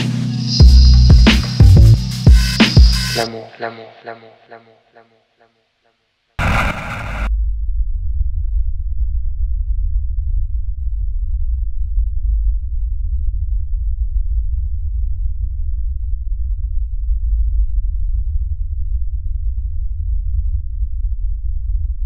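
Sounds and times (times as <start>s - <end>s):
deep bass rumble drone: 0.5s - 3.3s, 6.4s - 22.0s.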